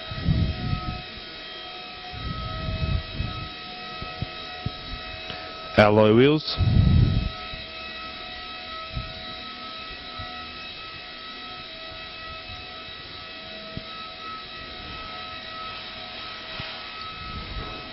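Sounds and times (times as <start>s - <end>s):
mechanical hum with whining tones: 0.0s - 17.9s.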